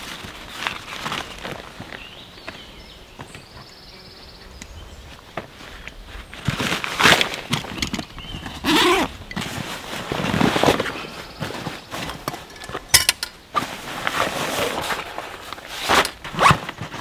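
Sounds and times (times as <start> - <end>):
nylon backpack rustling: 0.0 - 2.3, 5.1 - 17.0.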